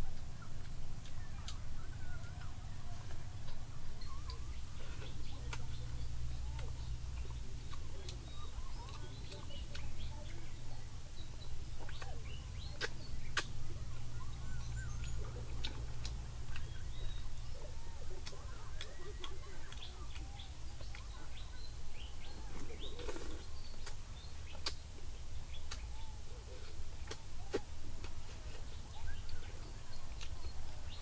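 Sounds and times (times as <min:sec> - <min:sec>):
birds chirping: 0:00.0 - 0:31.0
low steady rumble: 0:00.0 - 0:31.0
chewing and smacking: 0:00.2 - 0:21.7, 0:22.3 - 0:24.8, 0:25.6 - 0:31.0.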